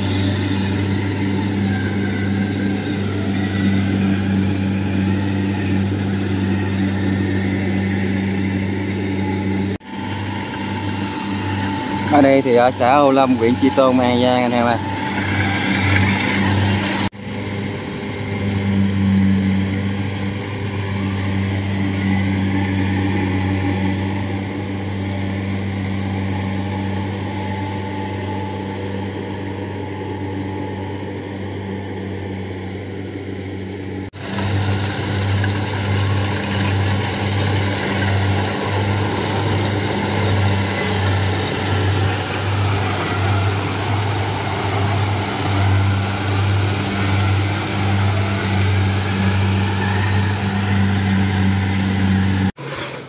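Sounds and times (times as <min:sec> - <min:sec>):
pulsing throbbing drone: 0:00.0 - 0:52.6
combine harvester engine running: 0:00.0 - 0:53.0.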